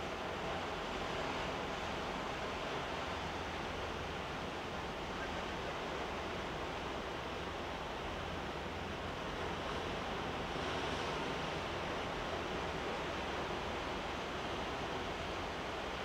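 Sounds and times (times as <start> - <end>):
sea rushing: 0.0 - 16.0.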